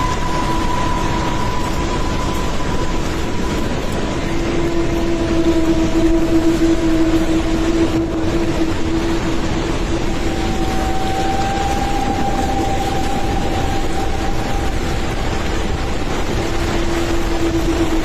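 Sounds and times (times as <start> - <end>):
rushing floodwater roar: 0.0 - 18.0.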